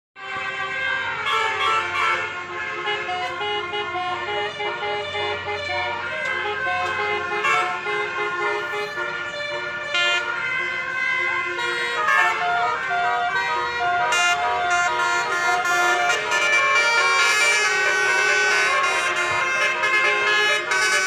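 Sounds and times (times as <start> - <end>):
multi-tone air horn tune: 0.5 - 21.0.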